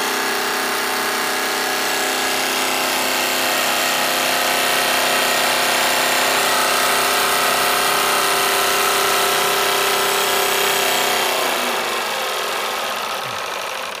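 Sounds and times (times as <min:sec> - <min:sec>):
model steam engine whirring: 0:00.0 - 0:14.0.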